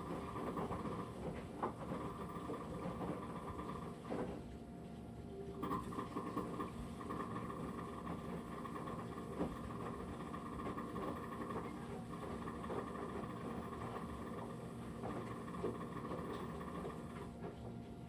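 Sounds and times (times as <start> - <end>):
rapid clicking rattle: 0.0 - 4.2, 5.6 - 17.3
washing machine drum humming: 0.0 - 18.0.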